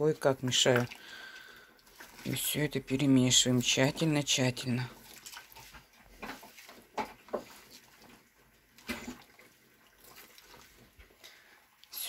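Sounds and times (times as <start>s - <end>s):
hand squelching food in marinade: 0.3s - 11.8s.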